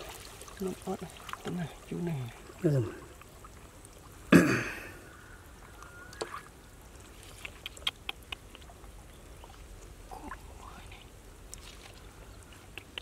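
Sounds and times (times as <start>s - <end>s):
small drips and ticks: 0.0s - 4.3s, 4.9s - 13.0s
water sloshing: 0.0s - 4.3s, 5.0s - 13.0s.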